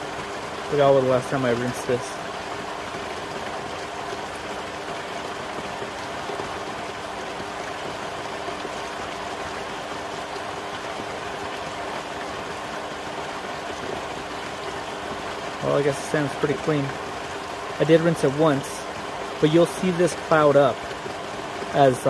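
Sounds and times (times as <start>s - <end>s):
pool pump hum: 0.0s - 22.0s
water rushing through pool filter: 0.0s - 22.0s.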